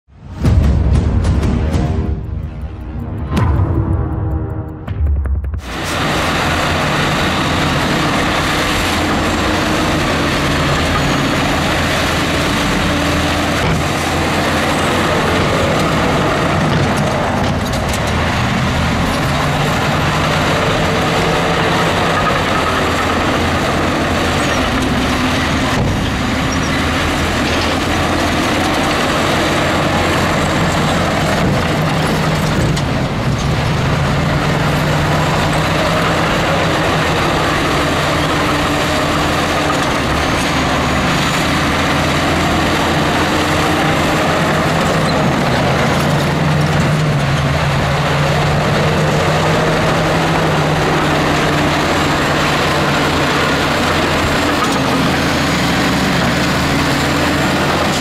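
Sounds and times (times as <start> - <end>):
diesel engine running under load: 0.1 - 58.0.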